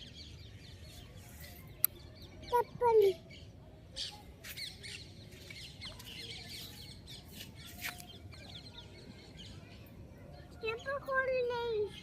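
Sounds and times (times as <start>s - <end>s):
birds chirping: 0.0s - 12.0s
faint background noise: 0.0s - 12.0s.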